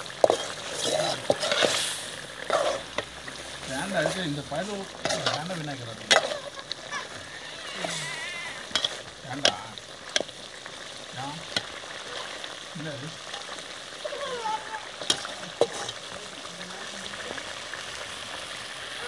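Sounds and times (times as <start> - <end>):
meat sizzling in gravy: 0.0 - 19.0.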